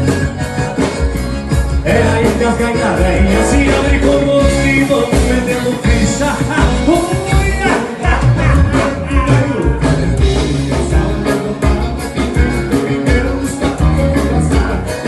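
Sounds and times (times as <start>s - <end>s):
heavy bass beat: 0.0s - 15.0s
instrumental band music: 0.0s - 15.0s.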